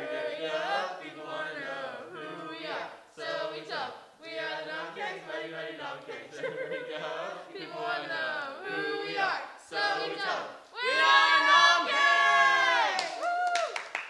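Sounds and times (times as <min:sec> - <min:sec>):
teenagers chanting in unison: 0:00.0 - 0:13.0.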